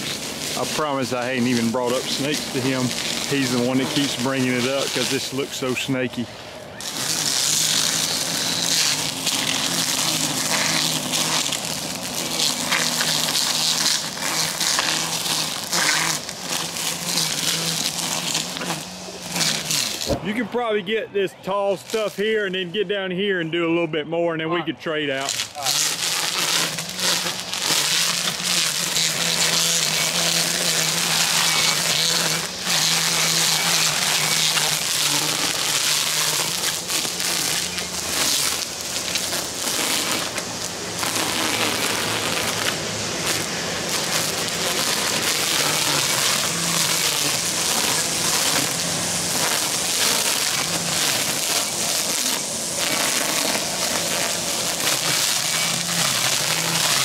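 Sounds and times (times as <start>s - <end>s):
string trimmer cutting grass: 0.0s - 20.8s, 21.5s - 23.0s, 25.1s - 57.0s.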